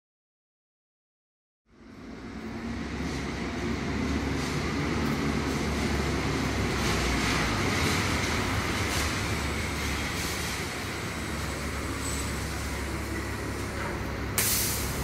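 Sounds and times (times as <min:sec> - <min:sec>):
bus engine and tyre rumble: 0:01.7 - 0:15.0.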